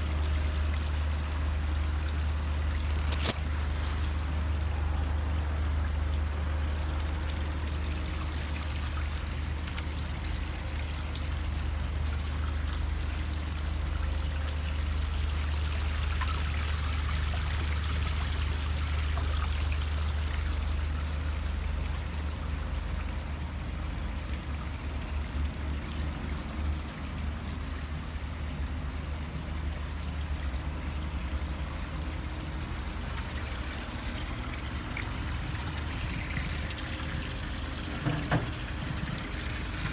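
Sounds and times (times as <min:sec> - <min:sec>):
pond water trickling: 0:00.0 - 0:39.9.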